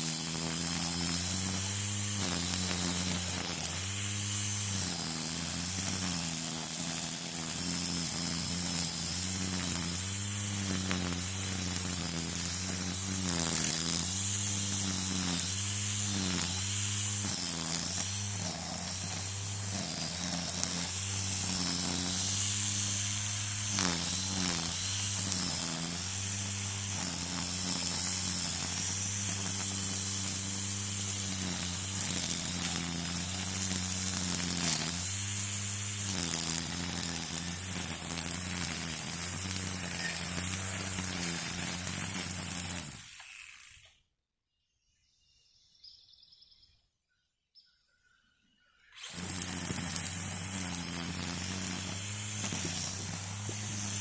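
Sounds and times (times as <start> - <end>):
string trimmer running: 0.0 - 44.1, 48.9 - 54.0.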